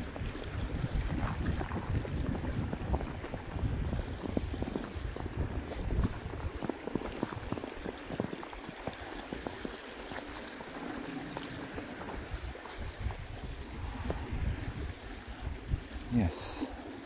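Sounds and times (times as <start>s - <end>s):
water flowing in a stream: 0.0s - 17.0s
wind rumble on microphone: 0.0s - 17.0s.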